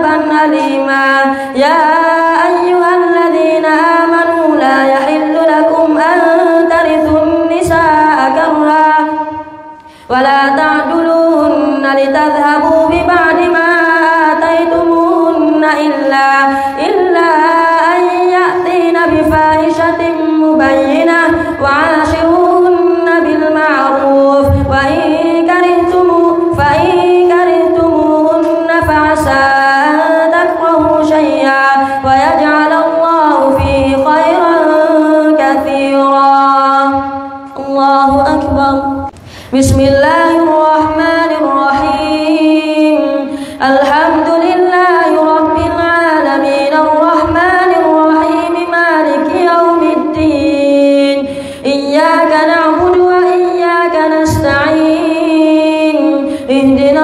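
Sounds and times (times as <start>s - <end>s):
melodic recitation through microphone: 0.0s - 57.0s.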